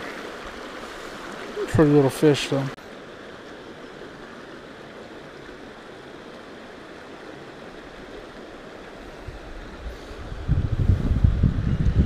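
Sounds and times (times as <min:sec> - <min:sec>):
creek rushing over stones: 0:00.0 - 0:12.0.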